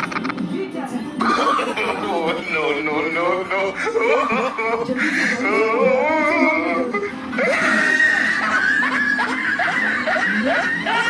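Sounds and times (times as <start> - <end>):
high-pitched wavering laugh: 1.7 - 11.0.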